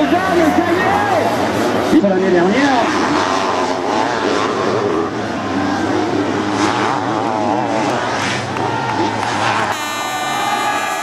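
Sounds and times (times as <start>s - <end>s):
racing engines revving: 0.0s - 11.0s
steady engine drone: 0.0s - 11.0s.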